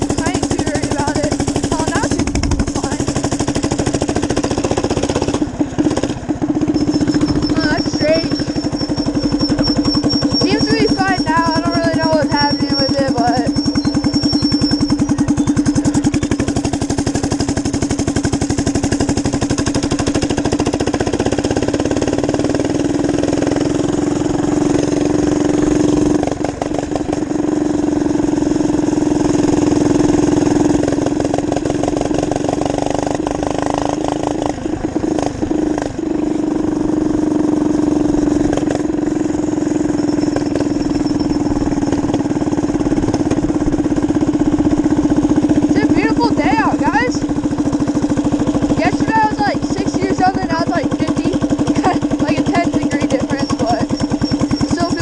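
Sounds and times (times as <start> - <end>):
minibike engine running: 0.0 - 55.0.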